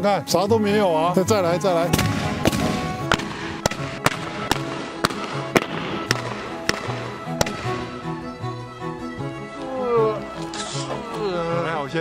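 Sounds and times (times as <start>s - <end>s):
background music with low notes: 0.0s - 12.0s.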